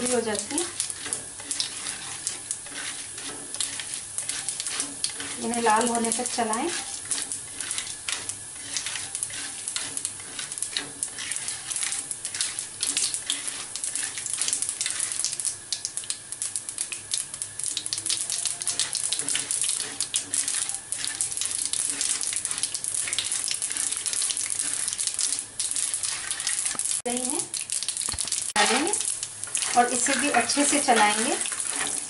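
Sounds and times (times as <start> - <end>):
spatula stirring: 0.0 - 16.0, 17.0 - 27.0, 27.8 - 32.0
lentils sizzling in hot oil: 0.0 - 32.0.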